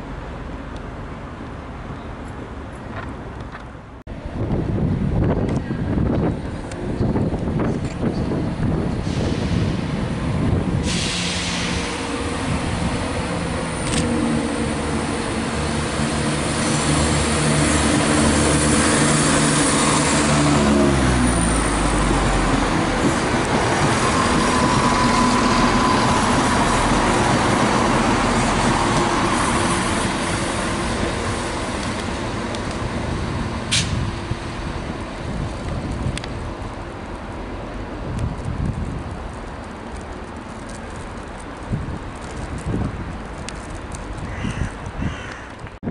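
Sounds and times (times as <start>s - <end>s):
train diesel engines: 0.0s - 45.8s
wheel and rail noise: 0.0s - 45.9s.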